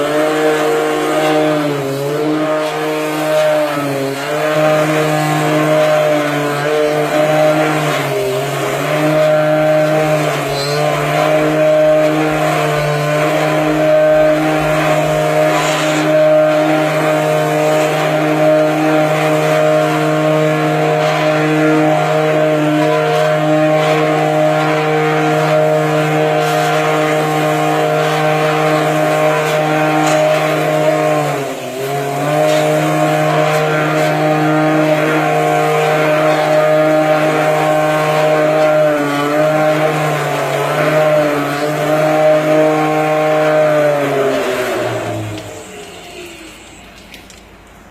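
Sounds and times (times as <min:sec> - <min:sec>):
machine spindle humming: 0:00.0 - 0:47.9.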